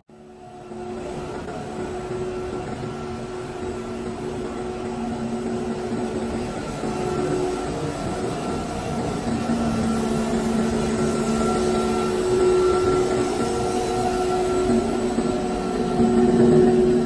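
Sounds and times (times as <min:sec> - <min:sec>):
steady machine hum: 0:00.1 - 0:17.0
held machine tones: 0:00.2 - 0:17.0.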